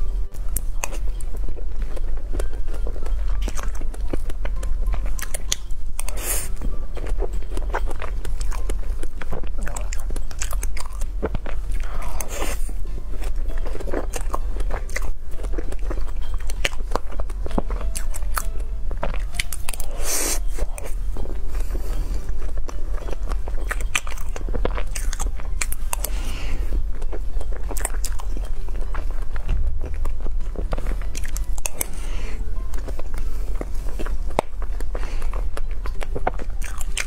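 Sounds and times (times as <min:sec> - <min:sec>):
chewing and wet mouth sounds: 0:00.0 - 0:37.0.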